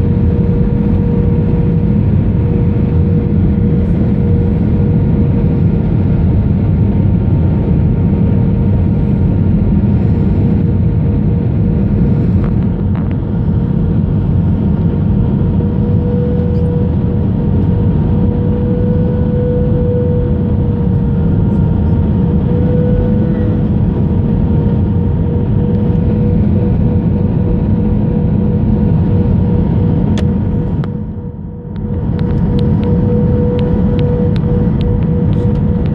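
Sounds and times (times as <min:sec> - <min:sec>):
airliner engine and airflow noise: 0:00.0 - 0:35.9
steady hum: 0:00.0 - 0:35.9.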